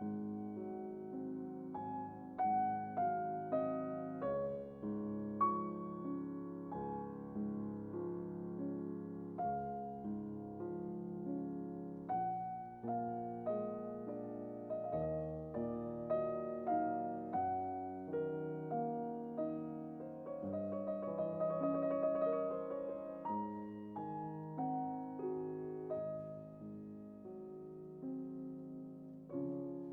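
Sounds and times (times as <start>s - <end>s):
piano music: 0.0s - 29.9s.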